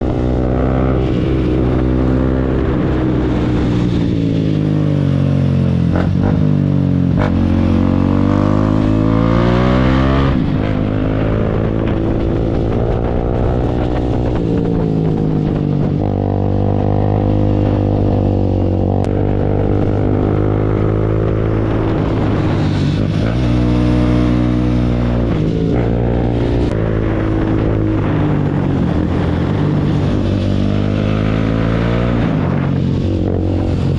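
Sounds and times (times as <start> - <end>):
motorcycle engines revving: 0.0 - 33.9.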